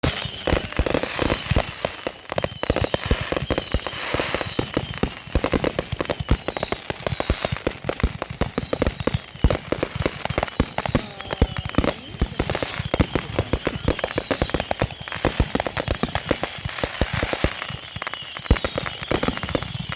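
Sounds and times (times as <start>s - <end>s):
falling firework whistle: 0.0s - 19.9s
firecracker bangs and pops: 0.0s - 19.9s.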